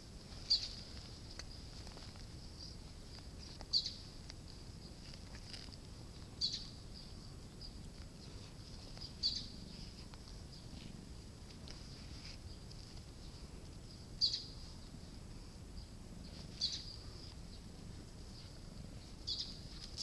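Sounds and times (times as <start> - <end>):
chorus of insects: 0.0 - 20.0.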